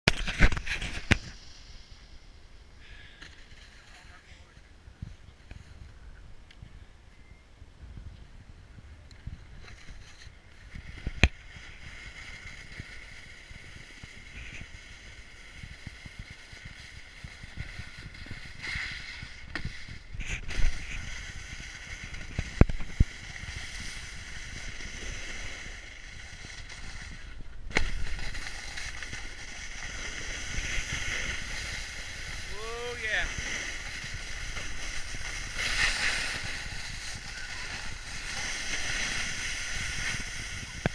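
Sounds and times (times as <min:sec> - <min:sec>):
skis scraping on packed snow: 0:03.3 - 0:04.6, 0:09.3 - 0:40.9
wind on microphone: 0:04.7 - 0:40.9.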